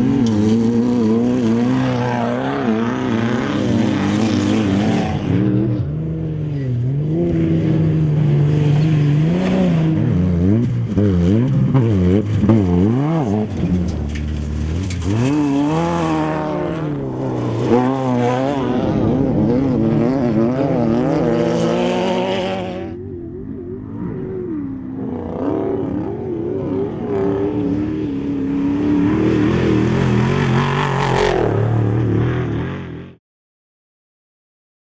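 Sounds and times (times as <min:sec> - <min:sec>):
race vehicle engine revving: 0:00.0 - 0:33.2.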